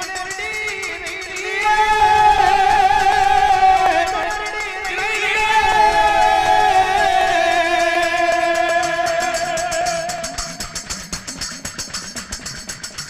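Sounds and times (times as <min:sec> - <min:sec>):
long held folk singing note: 0:00.0 - 0:11.5
fast percussion beat: 0:00.0 - 0:13.0.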